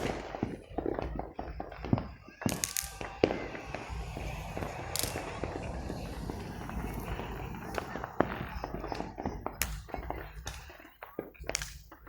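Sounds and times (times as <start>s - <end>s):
fireworks cracking and popping: 0.0s - 12.0s
fireworks crackle: 0.0s - 12.0s.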